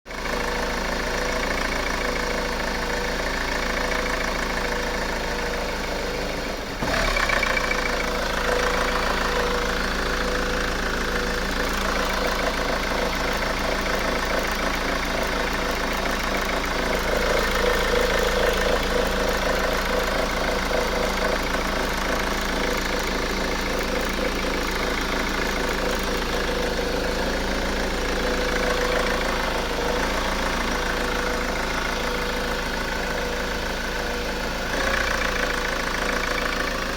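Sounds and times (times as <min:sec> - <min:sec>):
diesel engine idling roughly: 0:00.1 - 0:36.9.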